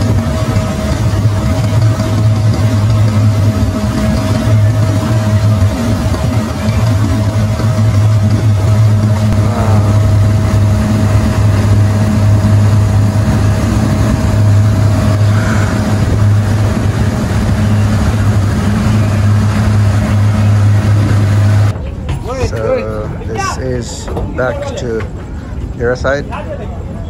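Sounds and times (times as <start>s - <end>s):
water rushing past hull: 0.0s - 21.8s
boat engine droning: 0.0s - 27.0s.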